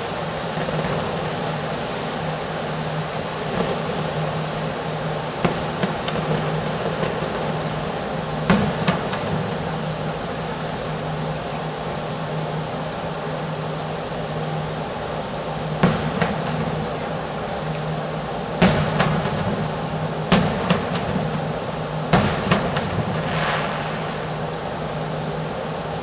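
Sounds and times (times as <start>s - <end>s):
distant fireworks bangs: 0.0s - 11.4s, 15.6s - 26.0s
fireworks crackle: 0.0s - 12.0s, 15.6s - 26.0s
low hum and hiss: 0.0s - 26.0s.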